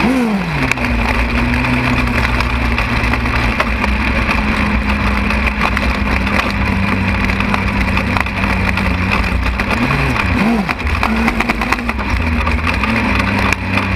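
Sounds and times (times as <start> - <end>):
race car engine running: 0.0 - 13.9
rough rattle: 0.0 - 13.9.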